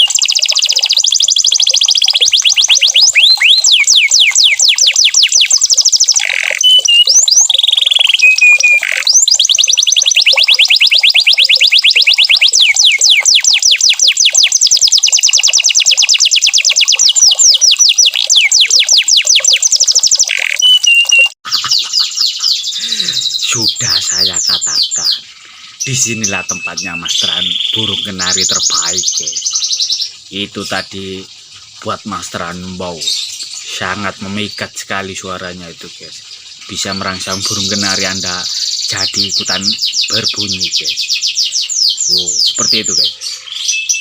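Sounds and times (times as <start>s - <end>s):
canary singing trills: 0.0s - 44.0s.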